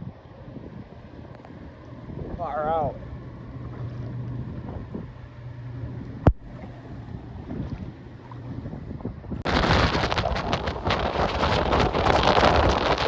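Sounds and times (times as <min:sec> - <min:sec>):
hurricane wind buffeting microphone: 0:00.0 - 0:13.0
light wind: 0:00.0 - 0:13.0
low steady hum: 0:00.0 - 0:13.0.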